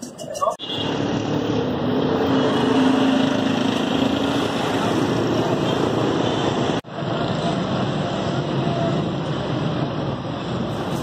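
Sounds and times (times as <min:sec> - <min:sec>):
steady road noise: 0:00.0 - 0:11.0
vehicle engines running: 0:00.0 - 0:11.0.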